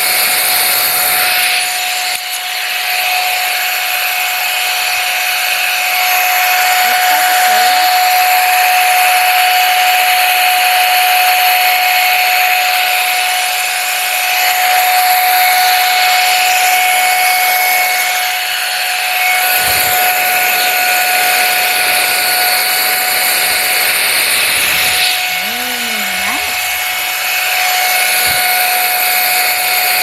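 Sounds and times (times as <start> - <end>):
hot air brush blowing: 0.0 - 30.0.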